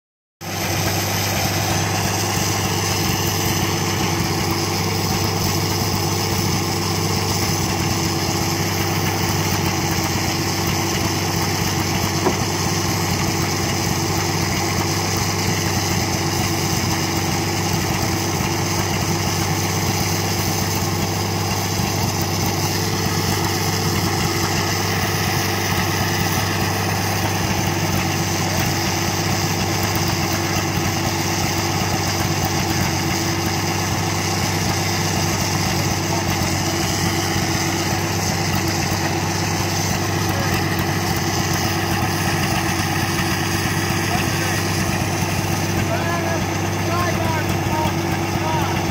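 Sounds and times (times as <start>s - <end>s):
sawmill engine idling: 0.4s - 48.9s.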